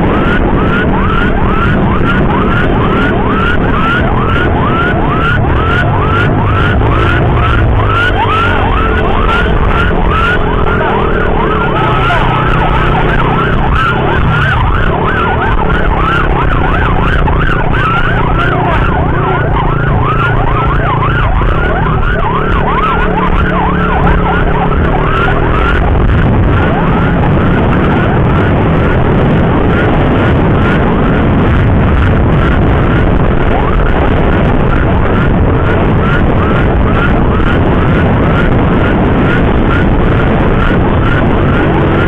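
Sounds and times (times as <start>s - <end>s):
emergency siren yelp: 0.0s - 42.0s
road and wind rumble: 0.0s - 42.0s.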